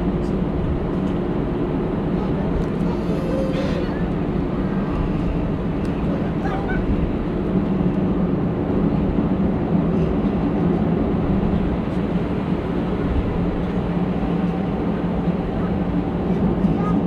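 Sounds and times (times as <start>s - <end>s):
jet airliner cabin drone: 0.0s - 17.0s.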